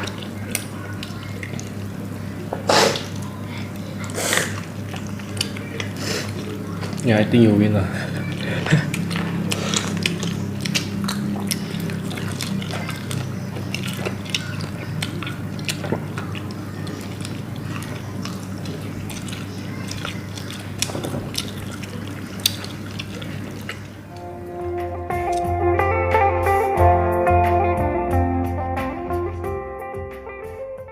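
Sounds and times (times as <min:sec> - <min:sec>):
wet chewing sounds: 0:00.0 - 0:24.3, 0:25.1 - 0:25.6.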